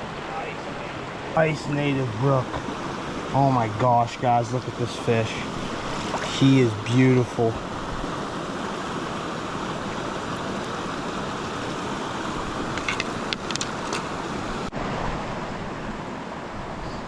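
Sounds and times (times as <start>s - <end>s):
stream rushing over rocks: 0.0s - 16.8s.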